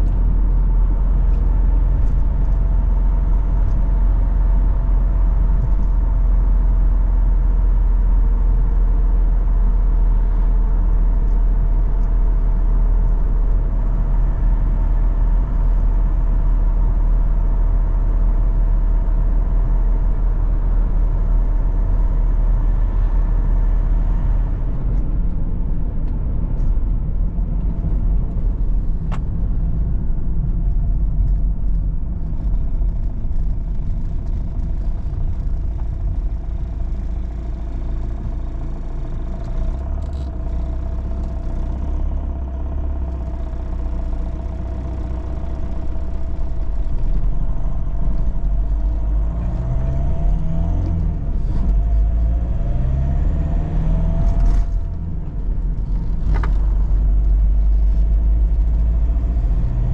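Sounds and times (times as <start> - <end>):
car interior road noise: 0.0 - 59.9
faint engine hum: 0.0 - 59.9.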